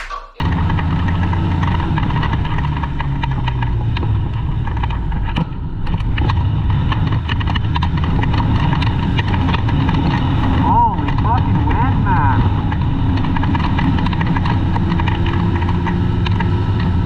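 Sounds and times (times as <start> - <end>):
sharp clicks and knocks: 0.0 - 11.6, 12.4 - 17.0
snowmobile engine running: 0.0 - 17.0.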